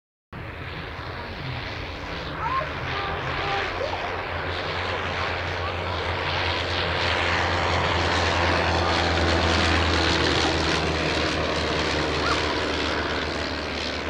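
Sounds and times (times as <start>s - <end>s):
propeller plane droning past: 0.4s - 14.0s.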